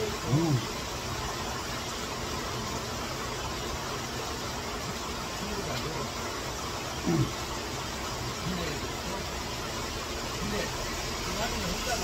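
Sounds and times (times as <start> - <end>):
heavy rainfall hiss: 0.0 - 12.0
stream rushing water: 0.0 - 12.0.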